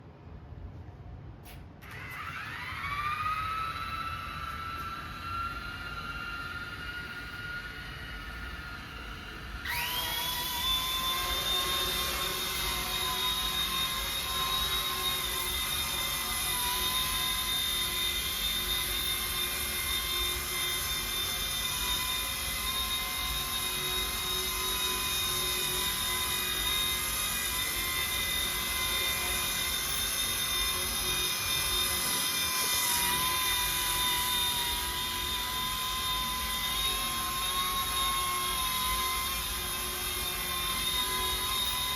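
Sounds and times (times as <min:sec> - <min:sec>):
rc helicopter rotor whine: 0:01.8 - 0:41.9.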